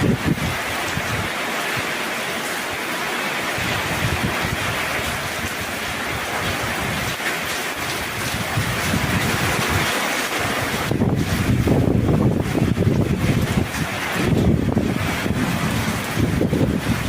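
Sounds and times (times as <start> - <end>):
wind buffeting microphone: 0.0 - 1.3, 3.6 - 17.0
heavy rain falling: 0.0 - 17.0.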